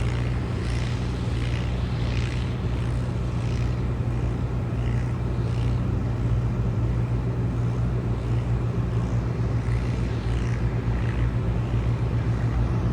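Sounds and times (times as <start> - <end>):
faint higher machine sounds: 0.0 - 12.9
tractor diesel engine running: 0.0 - 12.9.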